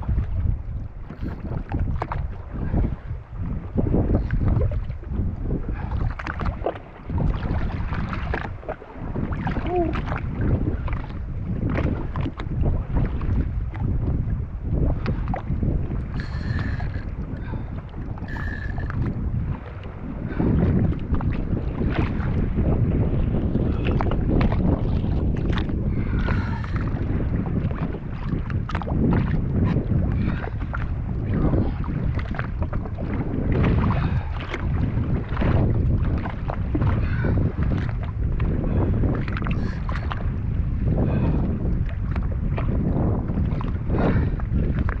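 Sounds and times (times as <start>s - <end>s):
water washing around jet ski: 0.0s - 45.0s
wind buffeting microphone: 0.0s - 45.0s.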